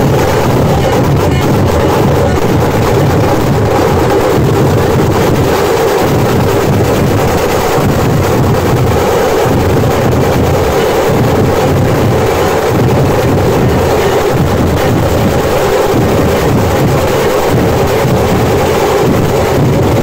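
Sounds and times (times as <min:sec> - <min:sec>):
loud dense drumming ensemble: 0:00.0 - 0:20.0.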